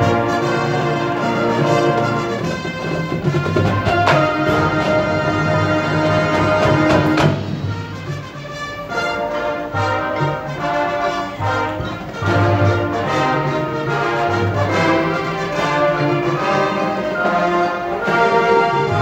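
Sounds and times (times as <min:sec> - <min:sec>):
marching band playing brass: 0:00.0 - 0:19.0.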